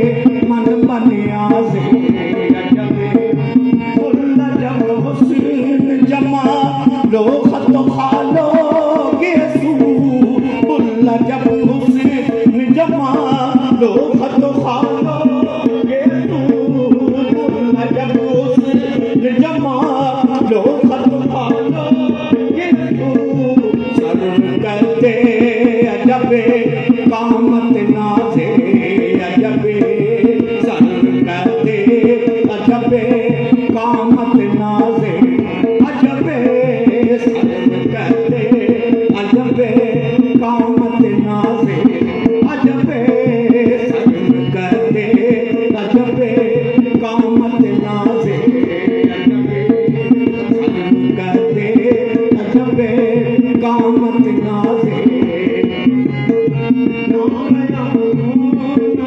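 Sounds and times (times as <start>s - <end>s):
harmonium tones: 0.0s - 59.0s
tabla playing: 0.0s - 59.0s
voices singing: 0.0s - 59.0s.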